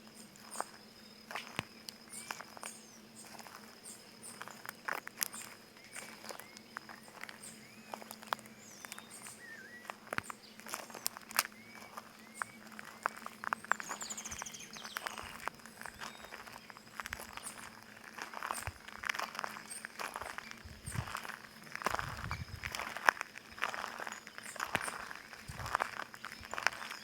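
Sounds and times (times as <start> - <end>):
small birds chirping: 0.1 - 27.0
footsteps crunching on stones: 0.2 - 27.0.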